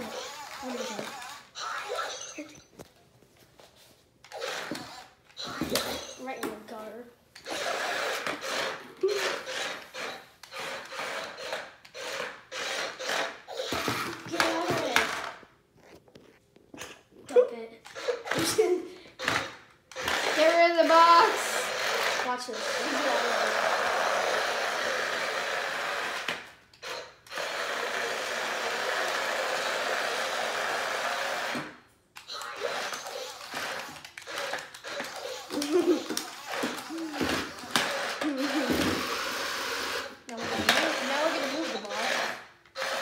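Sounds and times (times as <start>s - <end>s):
toy robot motor whirring: 0.0s - 2.8s, 4.2s - 6.4s, 7.4s - 15.4s, 17.8s - 43.0s.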